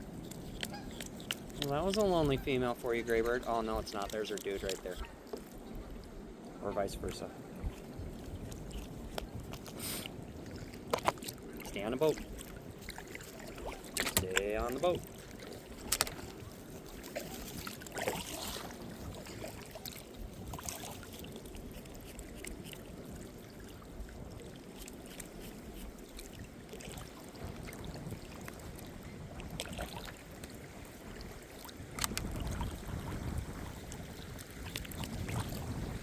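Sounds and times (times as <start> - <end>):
paddle strokes: 0.0 - 28.9, 29.5 - 36.0
water splashing: 0.0 - 36.0.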